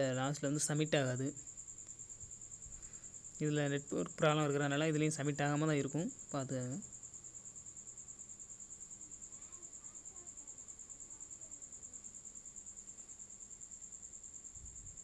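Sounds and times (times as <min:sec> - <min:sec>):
insect trilling: 0:00.0 - 0:15.0.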